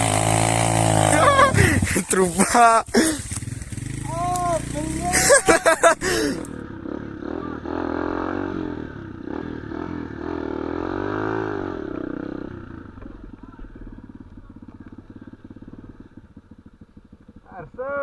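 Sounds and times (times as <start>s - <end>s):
small motorcycle engine revving: 0.0s - 18.0s.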